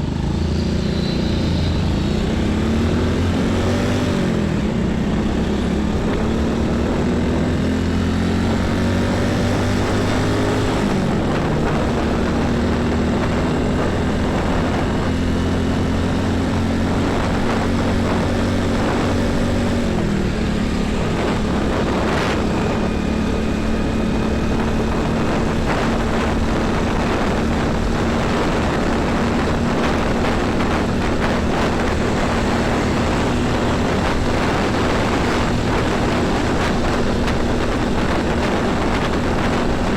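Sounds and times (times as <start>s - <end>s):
diesel engines in passing traffic: 0.0s - 39.9s.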